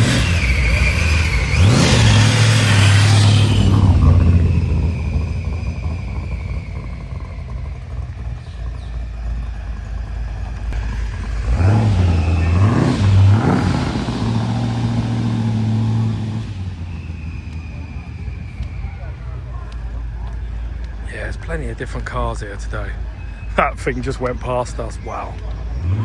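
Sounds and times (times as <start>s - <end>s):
car engine running and revving: 0.0s - 26.0s.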